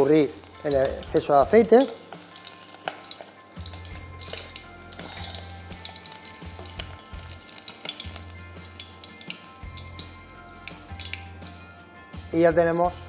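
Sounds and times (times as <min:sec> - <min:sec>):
prawns sizzling in hot oil: 0:00.0 - 0:12.0
metal utensil stirring in pan: 0:00.5 - 0:11.7.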